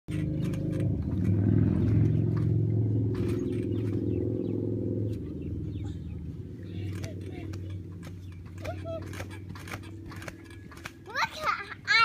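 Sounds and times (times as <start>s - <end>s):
engine droning: 0.1s - 12.0s.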